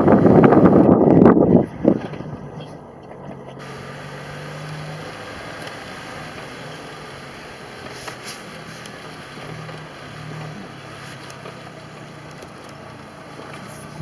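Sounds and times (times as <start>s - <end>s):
rush of noise: 0.0s - 11.3s
vehicle engine humming: 0.0s - 14.0s.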